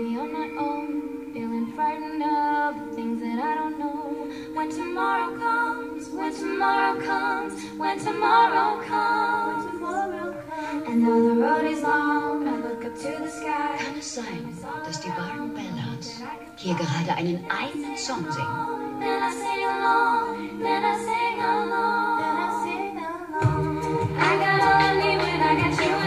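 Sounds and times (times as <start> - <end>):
female a cappella group singing: 0.0 - 26.0.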